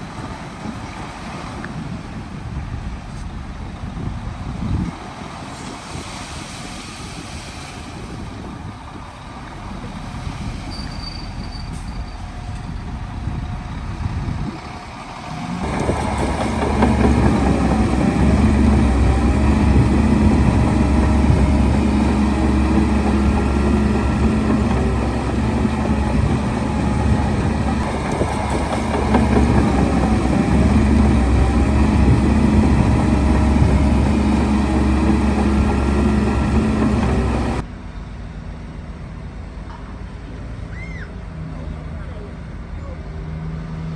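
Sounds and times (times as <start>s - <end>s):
diesel engine deep hum: 0.0s - 39.4s.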